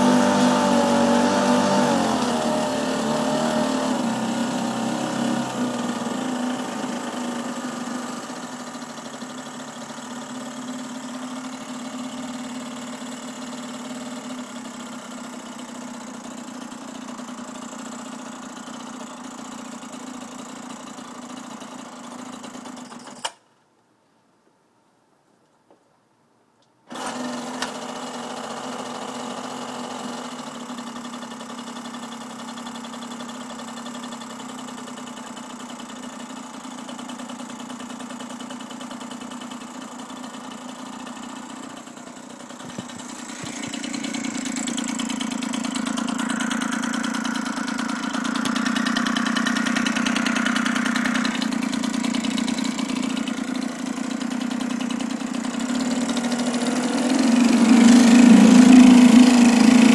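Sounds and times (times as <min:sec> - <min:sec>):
outboard motor running: 0:00.0 - 0:23.0, 0:26.9 - 0:59.9.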